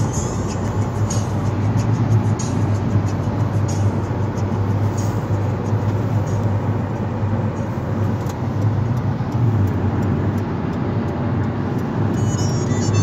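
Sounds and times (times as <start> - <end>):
low engine hum: 0.0 - 13.0
road and tyre noise: 0.0 - 13.0.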